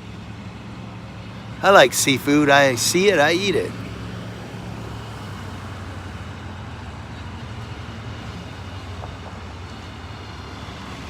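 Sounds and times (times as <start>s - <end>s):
traffic engine hum: 0.2s - 11.0s.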